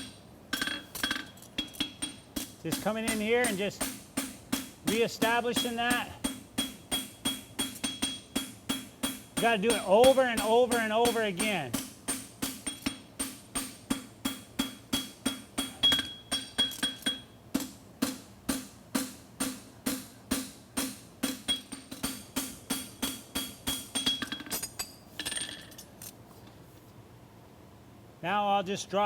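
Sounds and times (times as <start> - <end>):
hammer blows on hot steel: 0.0 - 24.2.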